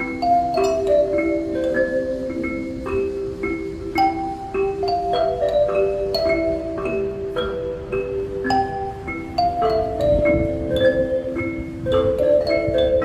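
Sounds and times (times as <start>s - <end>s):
mallet percussion notes: 0.0s - 13.0s
ocarinas playing slow melody: 0.0s - 13.0s.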